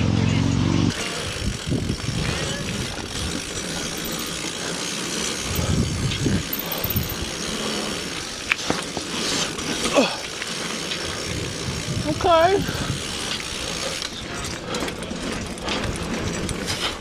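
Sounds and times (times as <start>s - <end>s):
bike riding on dirt trail: 0.9s - 17.0s.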